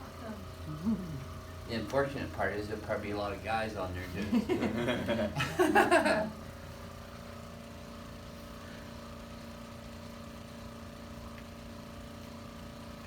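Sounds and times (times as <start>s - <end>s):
machine hum with steady tones: 0.0s - 13.0s.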